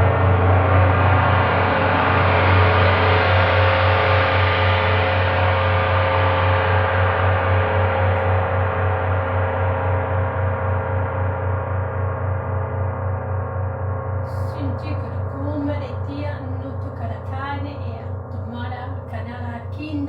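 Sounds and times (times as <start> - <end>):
deep pulsing hum: 0.0 - 20.0
gong ringing: 0.0 - 20.0.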